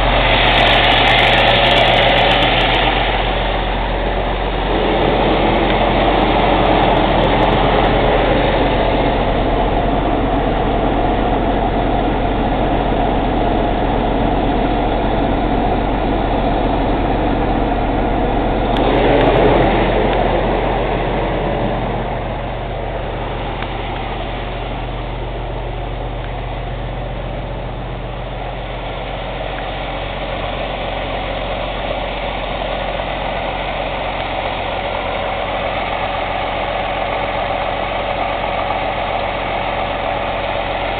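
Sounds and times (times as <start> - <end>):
diesel engine idling: 0.0 - 40.9
steady rushing noise: 0.0 - 40.9.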